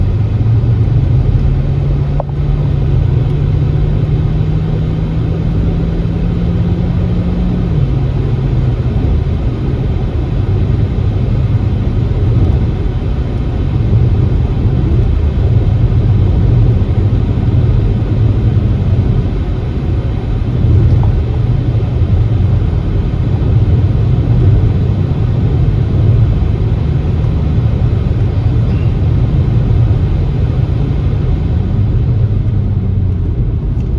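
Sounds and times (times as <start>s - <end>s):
car engine hum: 0.0s - 33.9s
road rumble: 0.0s - 33.9s.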